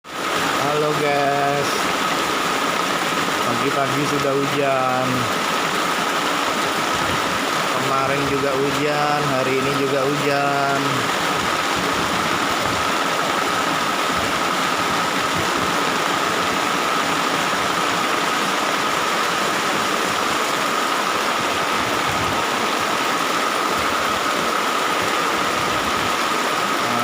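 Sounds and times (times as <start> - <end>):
heavy rain downpour: 0.0 - 27.0.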